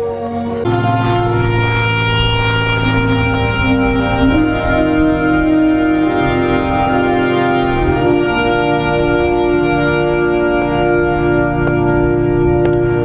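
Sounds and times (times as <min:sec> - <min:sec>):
organ playing held chords: 0:00.0 - 0:13.0.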